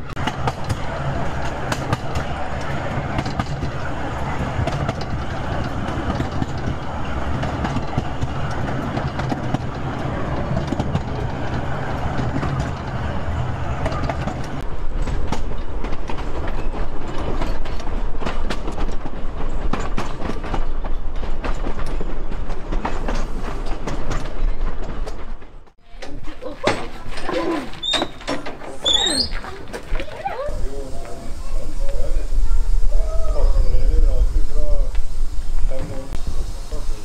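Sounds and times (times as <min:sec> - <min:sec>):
train wheels clicking and rattling: 0:00.0 - 0:32.1
train rumbling on track: 0:00.0 - 0:37.0.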